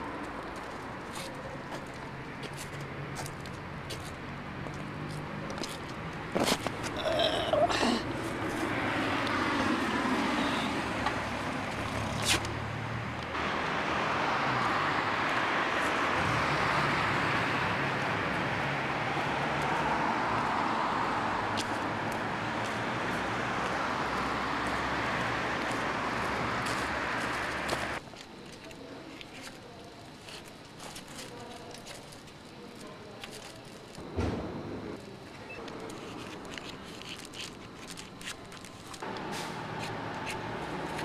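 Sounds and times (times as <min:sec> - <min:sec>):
street traffic: 0:00.0 - 0:41.0.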